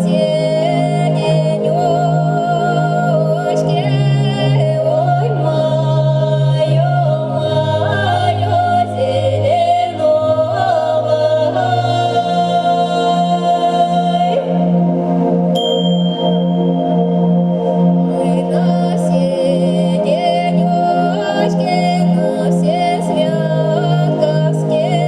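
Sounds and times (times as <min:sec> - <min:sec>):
person singing: 0:00.0 - 0:14.6, 0:18.1 - 0:25.0
low drone notes: 0:00.0 - 0:25.0.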